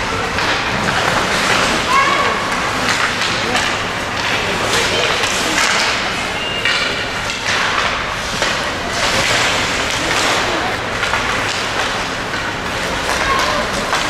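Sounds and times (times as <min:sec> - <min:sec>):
hockey sticks and puck knocks: 0:00.1 - 0:14.0
skate blades scraping ice: 0:00.2 - 0:14.0.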